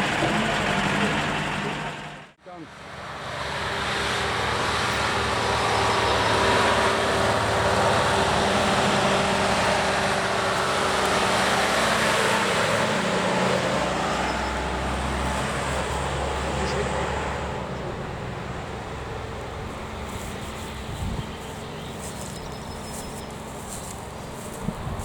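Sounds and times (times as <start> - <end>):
road noise: 0.0 - 25.0
truck engine running: 0.0 - 25.0.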